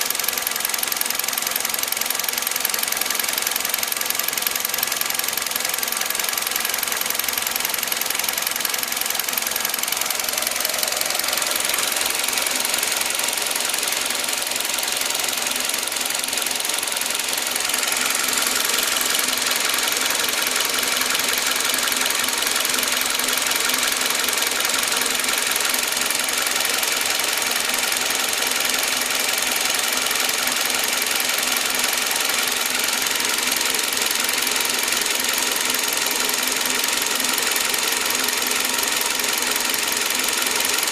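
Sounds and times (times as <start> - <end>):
car engine running: 0.0 - 40.9
engine ticking clatter: 0.0 - 40.9.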